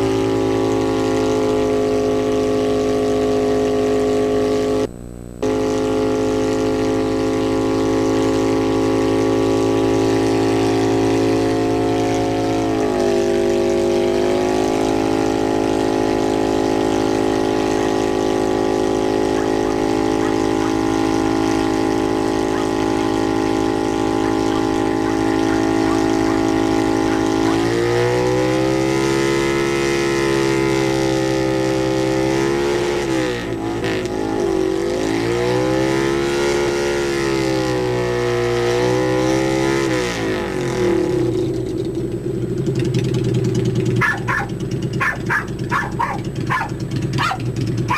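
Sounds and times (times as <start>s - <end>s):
motorcycle engine revving high: 0.0s - 47.9s
rear tire spinning: 0.0s - 47.9s.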